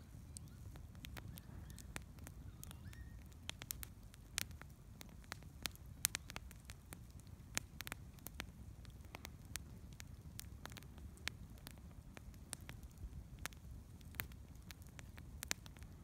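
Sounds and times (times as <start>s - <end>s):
campfire crackling and popping: 0.1s - 16.0s.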